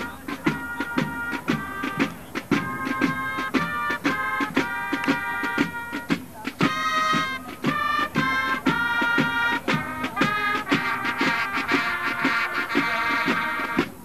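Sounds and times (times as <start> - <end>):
marching band music: 0.0 - 14.0
steady drum beat: 0.0 - 14.0.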